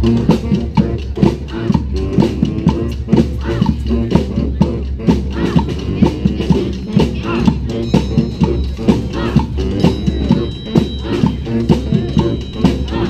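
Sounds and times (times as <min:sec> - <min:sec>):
brass band horns: 0:00.0 - 0:13.0
driving drum beat: 0:00.0 - 0:13.0.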